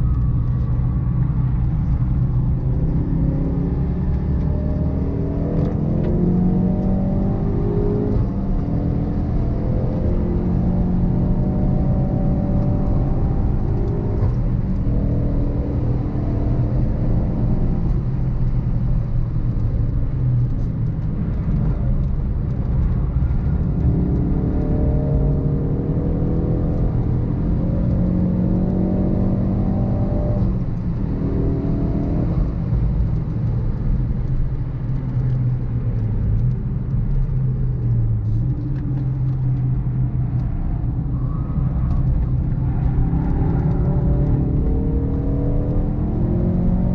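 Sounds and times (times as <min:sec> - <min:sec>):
car engine accelerating hard: 0:00.0 - 0:46.9.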